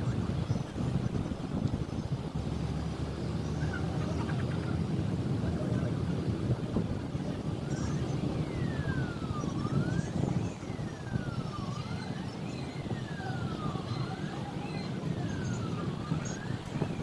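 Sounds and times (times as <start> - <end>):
jet engines rumbling: 0.0 - 17.0
wailing siren: 0.0 - 17.0.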